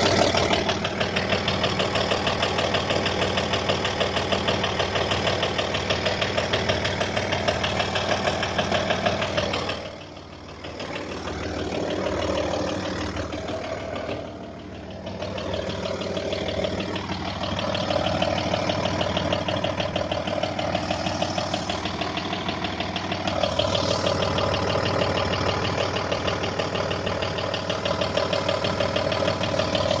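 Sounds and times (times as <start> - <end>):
diesel engine running: 0.0 - 30.0
rapid engine knocking: 0.0 - 30.0.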